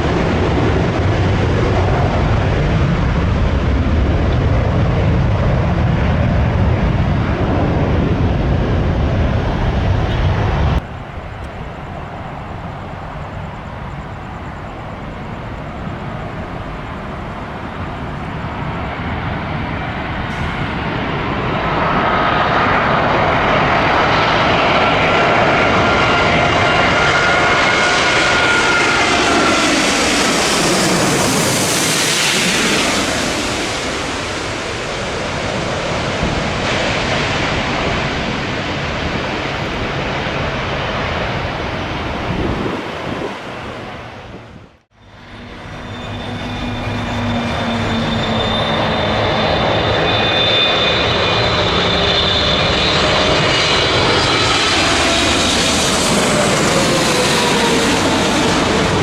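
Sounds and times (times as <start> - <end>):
high engine whine: 0.0 - 59.0
jet airliner passing overhead: 0.0 - 59.0.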